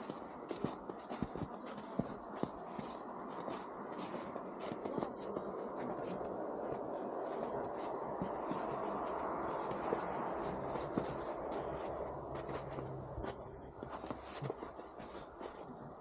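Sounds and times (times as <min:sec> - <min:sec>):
boots crunching through snow: 0:00.0 - 0:16.0
steady rushing noise: 0:00.0 - 0:16.0.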